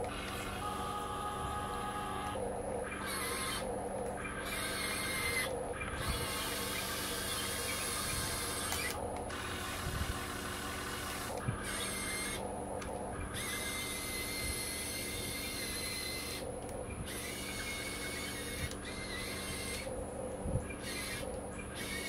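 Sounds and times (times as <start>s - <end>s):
small electric motors whirring: 0.0s - 22.0s.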